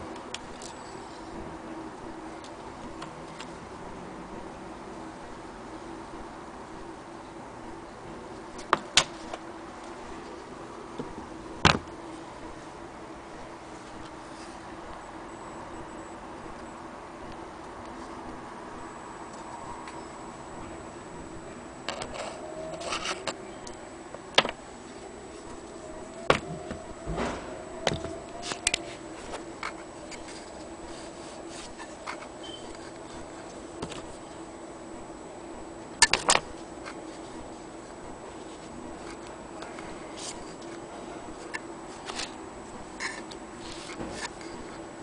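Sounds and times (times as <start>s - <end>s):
faint hum: 0.0s - 45.0s.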